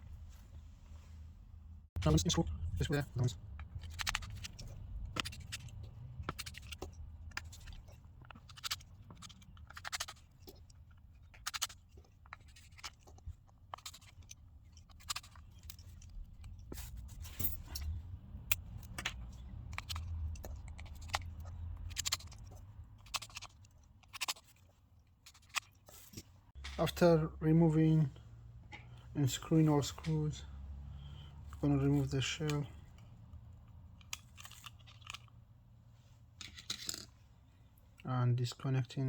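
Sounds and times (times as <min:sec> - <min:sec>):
tools scraping and clicking on phone: 0:02.8 - 0:27.1, 0:28.7 - 0:38.0.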